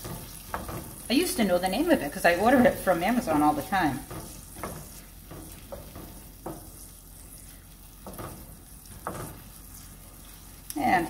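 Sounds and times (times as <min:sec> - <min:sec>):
onions sizzling in a skillet: 0:00.0 - 0:11.0
wooden spoon scraping a pan: 0:00.0 - 0:11.0.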